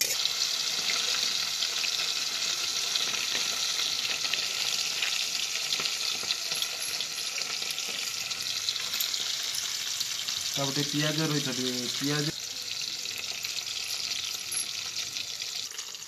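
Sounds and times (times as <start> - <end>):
hot oil sizzling and crackling: 0.0 - 16.0.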